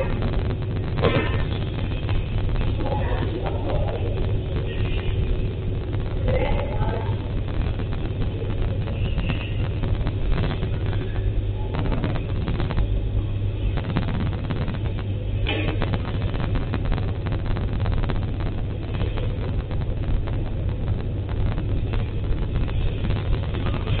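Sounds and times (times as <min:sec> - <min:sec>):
kitchen machinery humming: 0:00.0 - 0:24.0.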